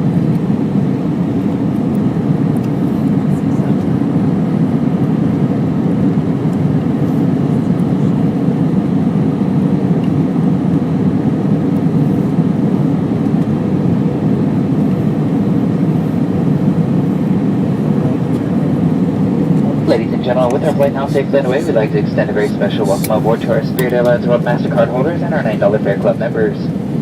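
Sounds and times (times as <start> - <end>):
airflow noise in cabin: 0.0 - 27.0
jet engine rumble: 0.0 - 27.0.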